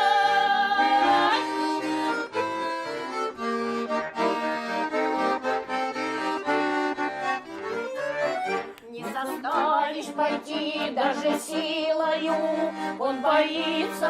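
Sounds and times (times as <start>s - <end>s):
accordion playing: 0.0s - 14.0s.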